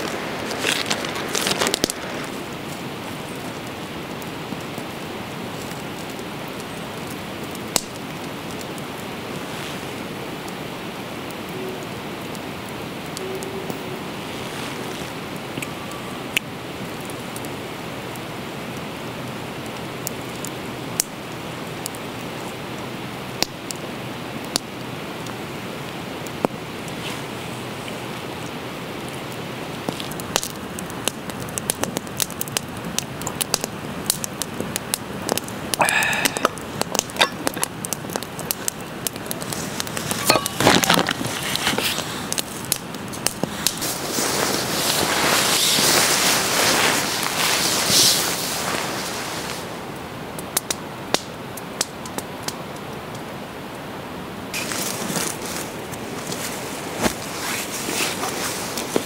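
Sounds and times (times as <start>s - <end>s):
fire popping: 0.0s - 53.8s, 54.5s - 59.0s
campfire hissing: 0.0s - 59.0s.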